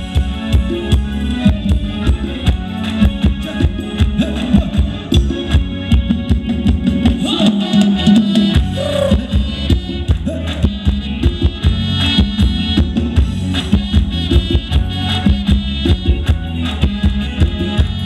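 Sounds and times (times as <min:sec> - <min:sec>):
live band dance music: 0:00.0 - 0:18.0
steady drum beat: 0:00.0 - 0:18.0.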